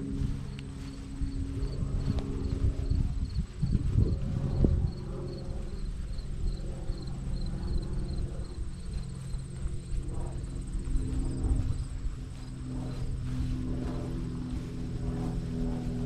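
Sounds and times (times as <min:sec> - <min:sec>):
low rumble: 0:00.0 - 0:16.0
cricket chirping: 0:00.2 - 0:13.5.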